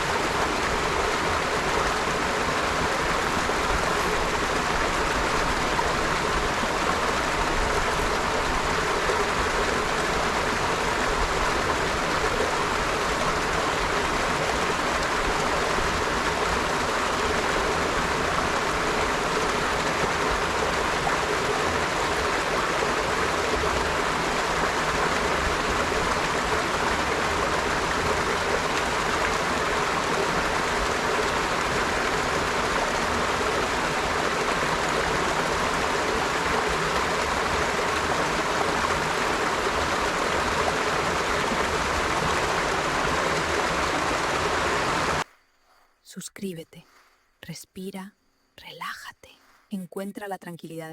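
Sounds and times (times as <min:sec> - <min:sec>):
river water flowing over stones: 0:00.0 - 0:45.2.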